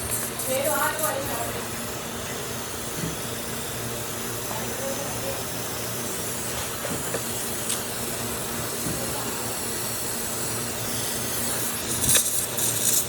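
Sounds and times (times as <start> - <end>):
steady hissing: 0.0 - 13.0.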